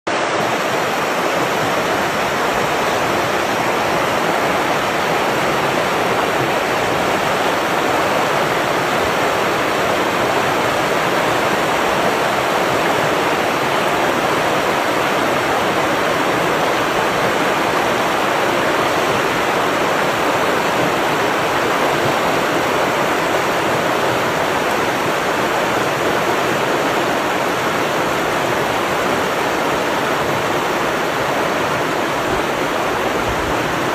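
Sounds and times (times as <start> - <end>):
rushing water: 0.1 - 33.9.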